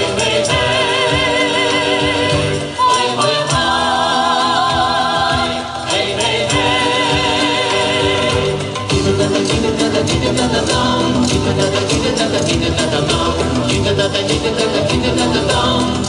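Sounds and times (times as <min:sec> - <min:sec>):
folk choir singing with vibrato: 0:00.0 - 0:16.0
instrumental accompaniment: 0:00.0 - 0:16.0
light steady percussion: 0:00.0 - 0:16.0.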